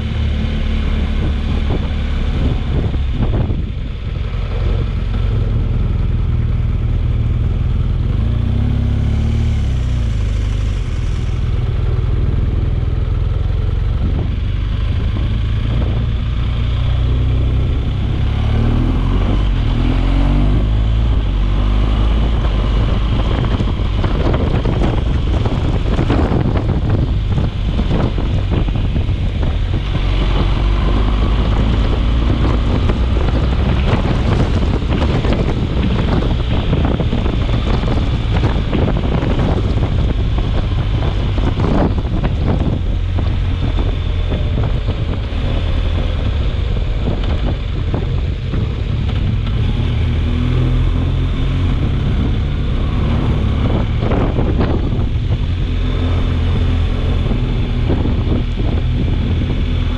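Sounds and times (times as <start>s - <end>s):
wind blowing against microphone: 0.0s - 6.4s, 8.0s - 59.9s.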